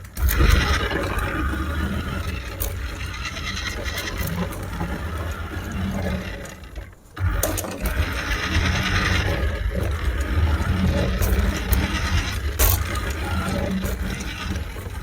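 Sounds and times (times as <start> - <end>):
toy electric motor whirring: 0.0 - 15.0.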